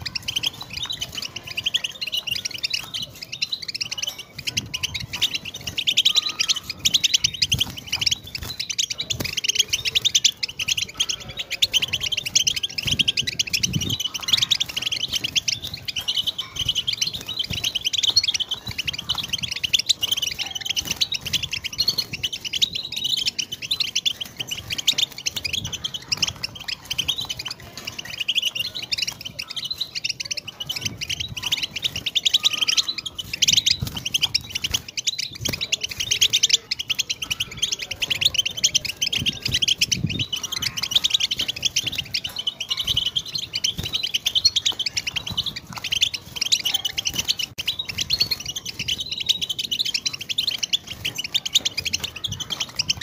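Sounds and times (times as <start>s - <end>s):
bird twittering song: 0.0s - 53.0s.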